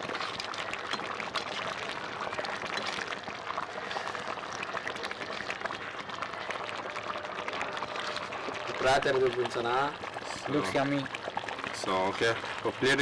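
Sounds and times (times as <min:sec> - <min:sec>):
curry bubbling and sizzling: 0:00.0 - 0:13.0.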